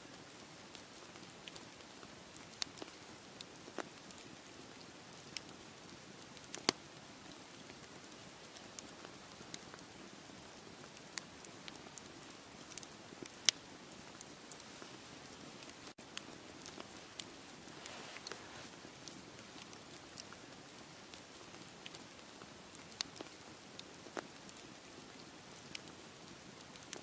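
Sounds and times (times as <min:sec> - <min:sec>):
campfire crackling and popping: 0:00.2 - 0:27.0.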